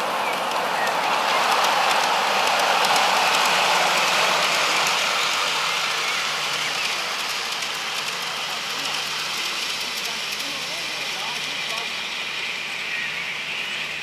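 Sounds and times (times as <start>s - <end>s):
model train wheels rattling on rails: 0.0s - 14.0s.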